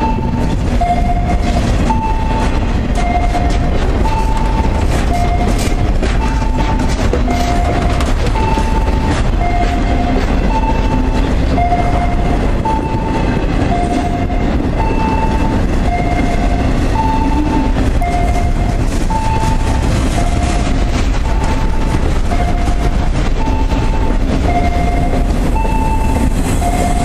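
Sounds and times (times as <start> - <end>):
freight train rolling past: 0.0 - 27.0
two-note electronic warning tone: 0.0 - 27.0.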